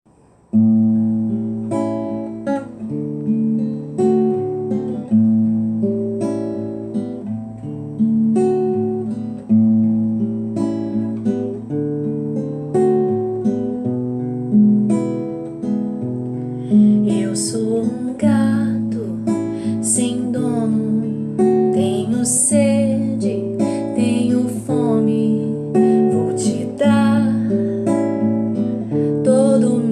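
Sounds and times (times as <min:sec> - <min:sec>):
acoustic guitar picking: 0:00.5 - 0:29.9.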